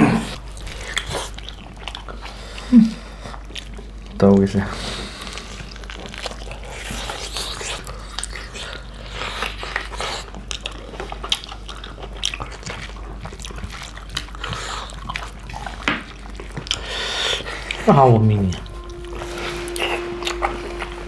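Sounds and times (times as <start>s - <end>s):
people chewing with mouth smacks: 0.0s - 20.4s.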